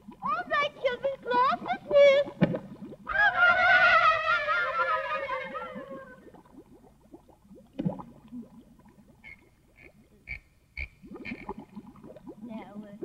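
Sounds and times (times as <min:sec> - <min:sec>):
underwater bubbling: 0:00.0 - 0:13.0.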